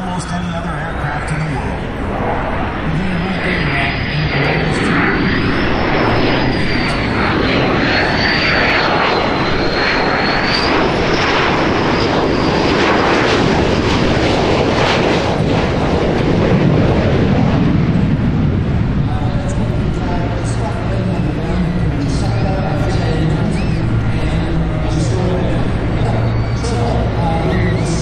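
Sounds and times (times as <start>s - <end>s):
jet engine whine: 0.0s - 28.0s.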